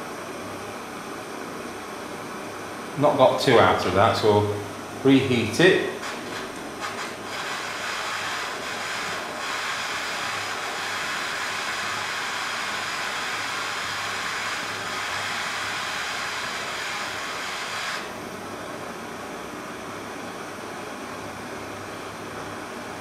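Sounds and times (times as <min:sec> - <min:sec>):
blow lamp flame hissing: 0:00.0 - 0:23.0.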